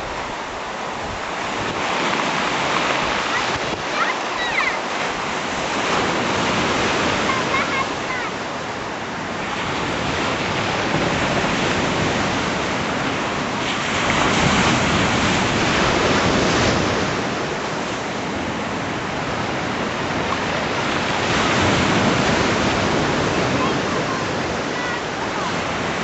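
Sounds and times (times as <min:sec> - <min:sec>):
waves washing onto rocky shore: 0:00.0 - 0:26.0.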